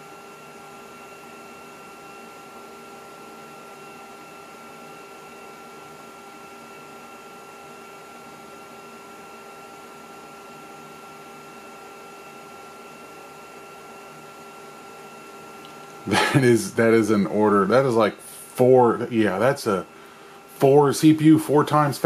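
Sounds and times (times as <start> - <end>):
computer fan hum with high whine: 0.0 - 22.0.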